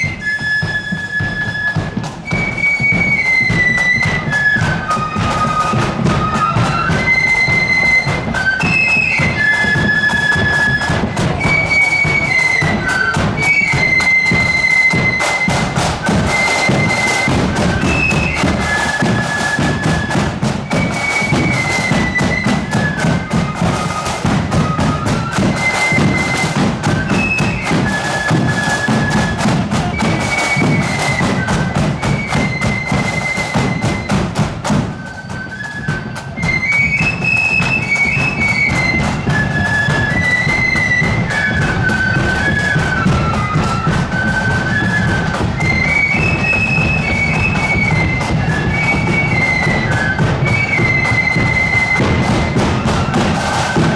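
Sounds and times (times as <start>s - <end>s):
flutes playing melody: 0.0s - 53.9s
side drums rattling: 0.0s - 53.9s.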